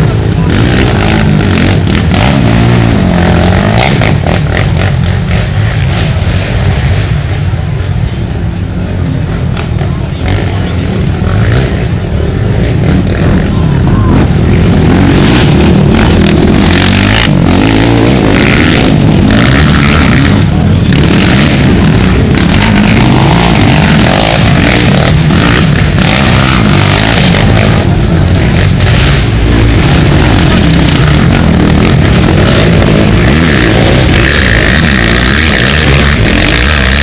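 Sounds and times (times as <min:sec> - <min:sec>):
atv engines revving: 0:00.0 - 0:37.0.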